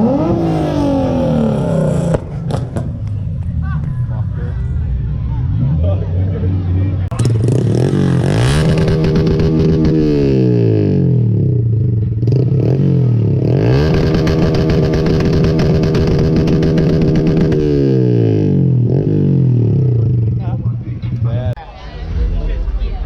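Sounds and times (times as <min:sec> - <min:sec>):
vehicle engine revving: 0:00.0 - 0:03.4, 0:04.9 - 0:21.6.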